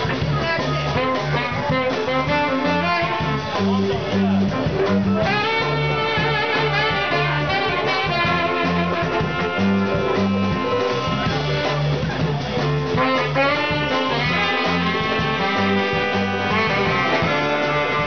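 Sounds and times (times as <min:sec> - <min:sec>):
repeating bass line: 0:00.0 - 0:18.0
trumpet and saxophone melody: 0:00.0 - 0:18.0.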